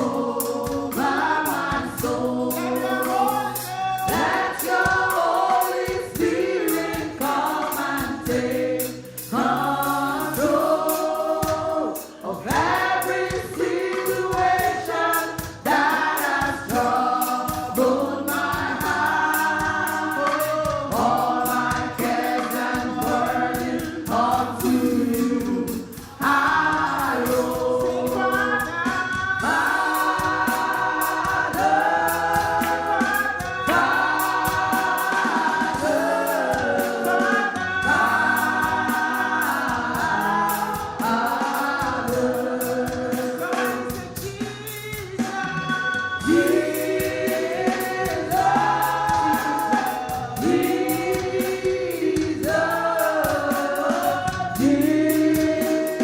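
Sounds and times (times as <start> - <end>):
choir singing gospel song: 0.0 - 56.0
instrumental accompaniment with beat: 0.0 - 56.0.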